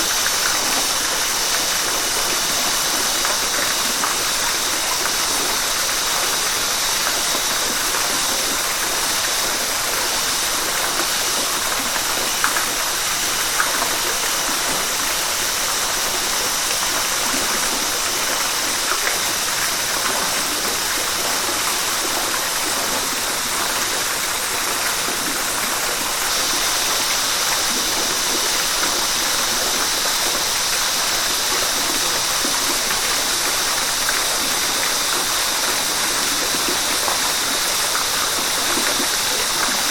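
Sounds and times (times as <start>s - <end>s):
river water flowing: 0.0s - 39.9s
water splashes: 0.0s - 39.9s.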